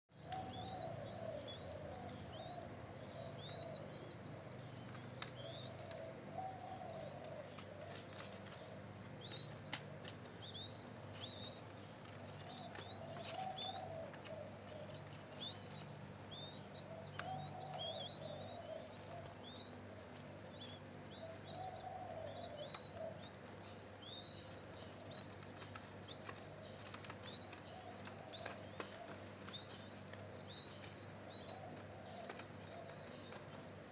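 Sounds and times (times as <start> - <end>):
bird high rising chirps: 0.1 - 33.9
doves cooing: 0.1 - 33.9.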